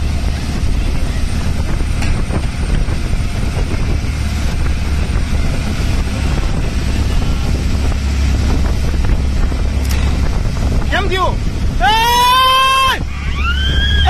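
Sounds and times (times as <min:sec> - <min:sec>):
boat motor rumbling: 0:00.0 - 0:14.0
wind buffeting microphone: 0:00.0 - 0:14.0.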